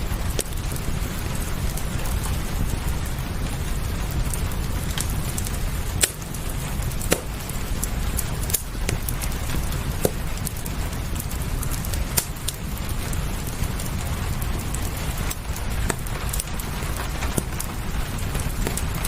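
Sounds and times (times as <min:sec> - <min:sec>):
rain: 0:00.0 - 0:19.0
wood fire crackling: 0:00.0 - 0:19.0.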